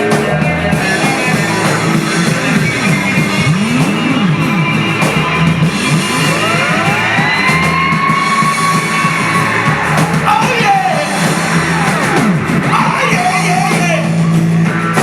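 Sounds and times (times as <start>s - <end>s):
voices shouting: 0.0s - 14.8s
rock band playing: 0.0s - 15.0s.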